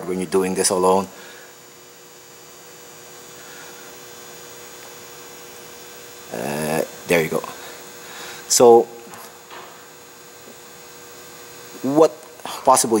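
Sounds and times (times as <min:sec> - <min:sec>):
faint electrical hum: 0:00.0 - 0:13.0
light hiss: 0:00.5 - 0:12.9.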